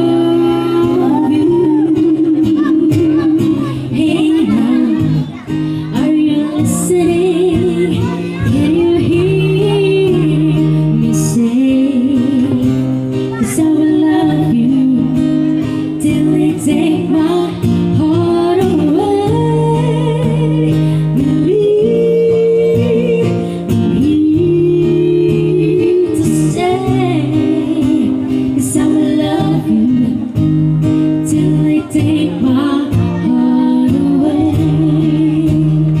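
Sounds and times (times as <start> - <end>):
person singing: 0.0 - 30.4, 31.2 - 36.0
acoustic guitar chords: 0.0 - 36.0.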